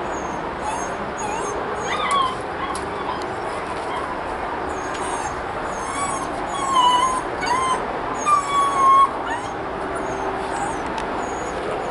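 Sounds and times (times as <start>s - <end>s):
puppy whining: 0.0s - 11.9s.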